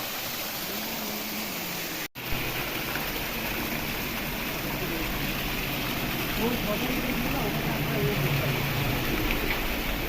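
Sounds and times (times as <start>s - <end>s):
steady outdoor rushing noise: 0.0s - 10.0s.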